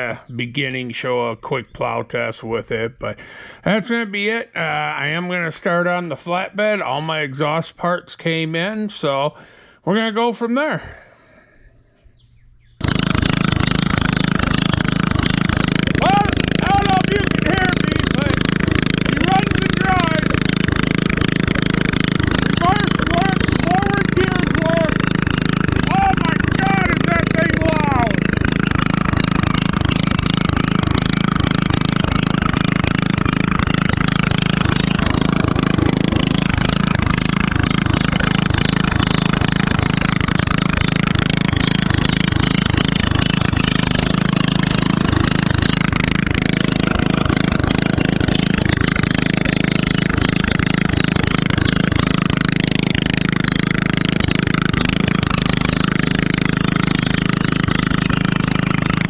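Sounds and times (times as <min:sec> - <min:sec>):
loud tractor engine running: 0:00.0 - 0:00.7, 0:03.2 - 0:03.9, 0:11.9 - 0:59.0.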